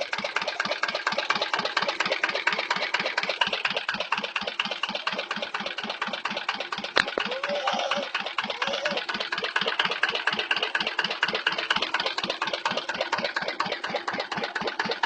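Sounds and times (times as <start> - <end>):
sharp engine knock: 0.0 - 7.4, 8.0 - 15.0
diesel engine running: 0.0 - 15.0.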